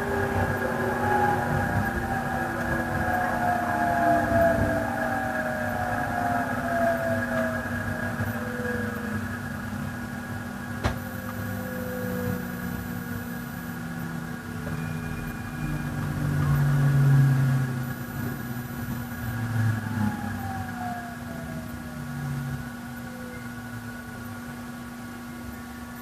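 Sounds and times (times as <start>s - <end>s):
traction motor whine: 0.0s - 26.0s
train rolling rumble: 0.0s - 26.0s.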